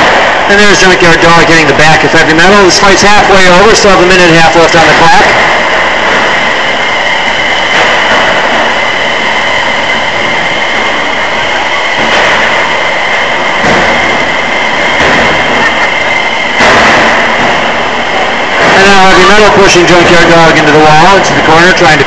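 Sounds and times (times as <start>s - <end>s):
spinning drum weapon whine: 0.0s - 22.0s.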